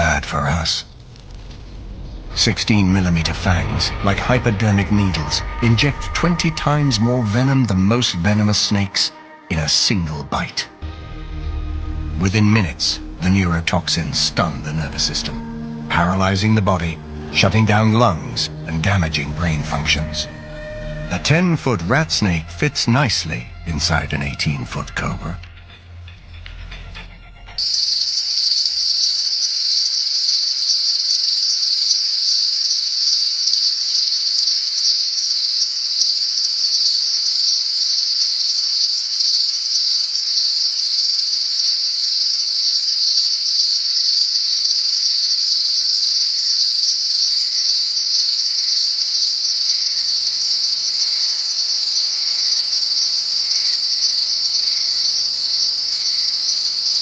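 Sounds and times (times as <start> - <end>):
insect chorus buzzing trill: 10.4 - 57.0.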